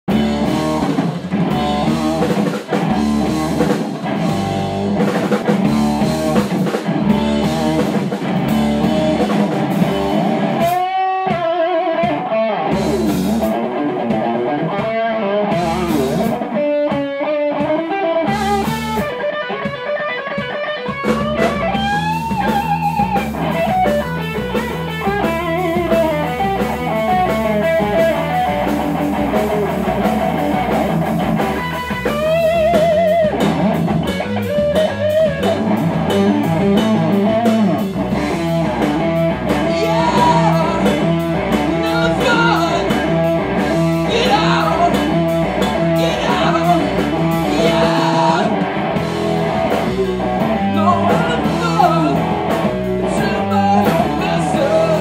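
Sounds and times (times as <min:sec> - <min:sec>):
electric guitar: 0:00.0 - 0:55.0
rock band playing: 0:00.0 - 0:55.0.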